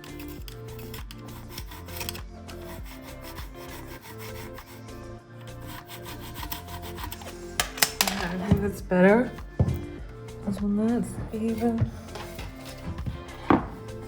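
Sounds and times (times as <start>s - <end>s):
background music: 0.0s - 14.0s
rasping on wood: 0.0s - 14.0s.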